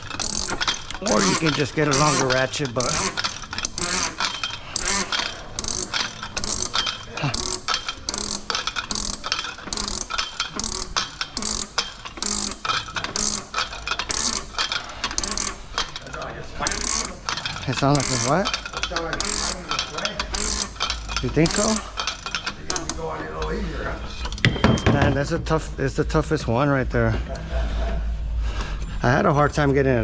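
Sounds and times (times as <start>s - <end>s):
hand ratchet clicking: 0.0s - 24.8s.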